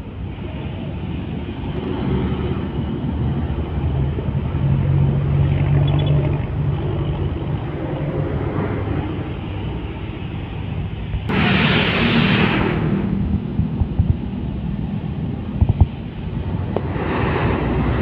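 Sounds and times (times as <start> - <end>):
diesel truck engine drone: 0.0 - 18.0
road traffic noise: 0.0 - 18.0.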